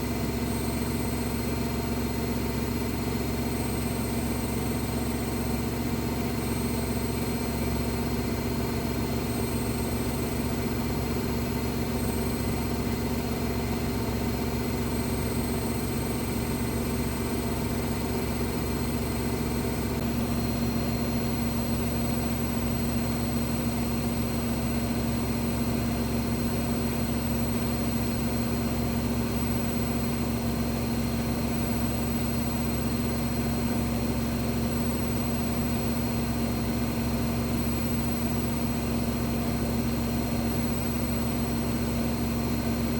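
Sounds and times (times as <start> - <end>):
washing machine spinning: 7.0 - 42.9.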